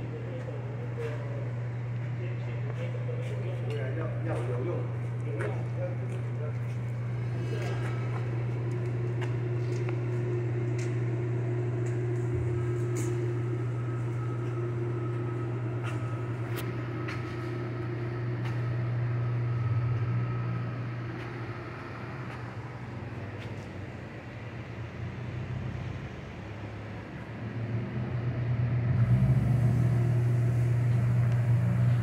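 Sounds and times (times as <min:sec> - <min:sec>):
machine humming: 0:04.0 - 0:32.0.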